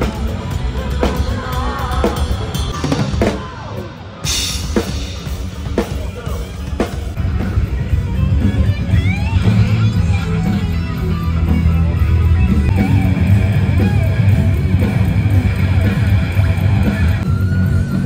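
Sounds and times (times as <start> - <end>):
bass guitar: 0.0 - 18.0
electric guitar: 0.0 - 18.0.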